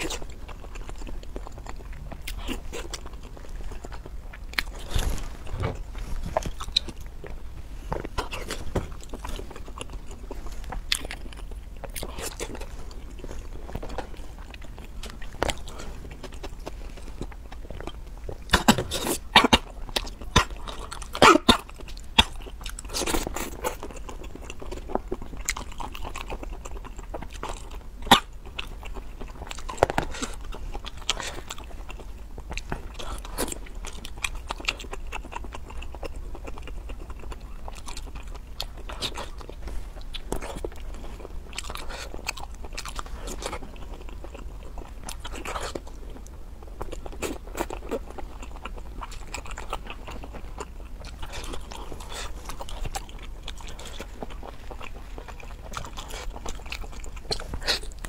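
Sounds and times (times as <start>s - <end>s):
wet chewing and smacking: 0.0s - 58.0s.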